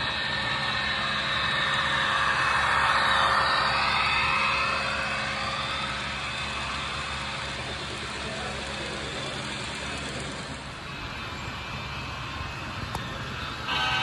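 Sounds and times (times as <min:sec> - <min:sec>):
model train wheels rolling on rail: 0:00.0 - 0:14.0.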